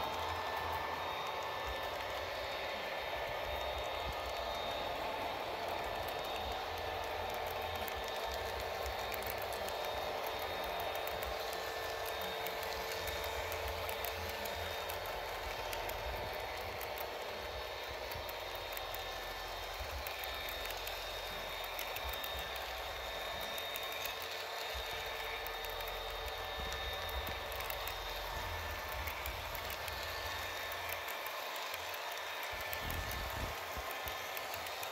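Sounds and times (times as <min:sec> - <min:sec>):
model train wheels rattling: 0:00.0 - 0:34.9
small clicks: 0:00.0 - 0:34.9.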